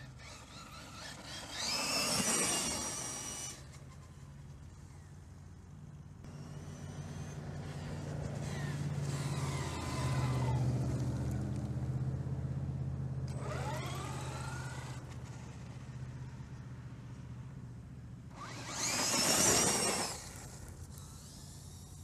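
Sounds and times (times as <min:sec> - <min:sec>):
vehicle low hum: 0:00.0 - 0:22.0.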